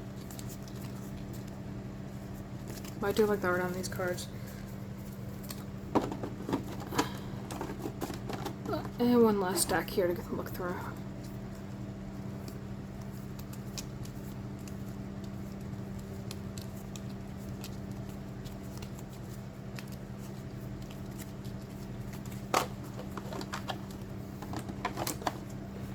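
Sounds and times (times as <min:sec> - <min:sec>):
cards being handled: 0:00.0 - 0:09.0, 0:11.0 - 0:25.9
steady low hum: 0:00.0 - 0:25.9.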